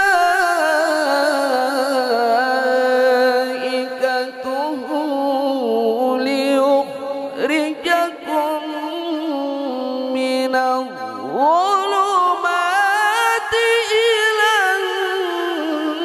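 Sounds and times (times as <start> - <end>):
man chanting through microphone: 0.0 - 16.0.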